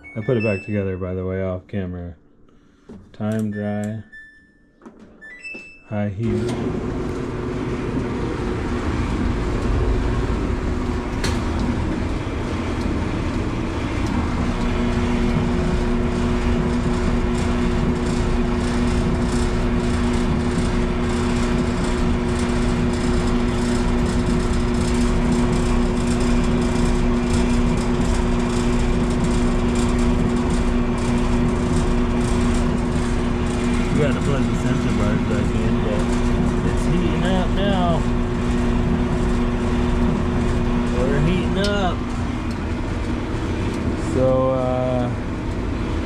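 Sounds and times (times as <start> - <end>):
steady hum: 5.9 - 46.0
clothes dryer running: 6.0 - 46.0.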